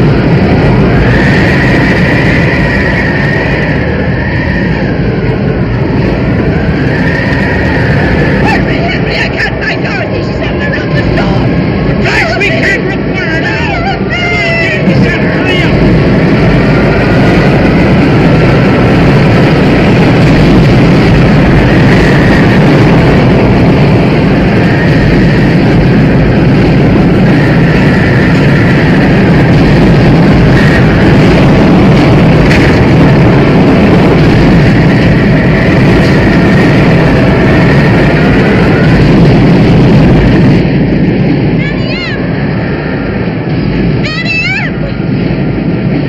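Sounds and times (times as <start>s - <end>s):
roar of storm wind: 0.0s - 46.0s.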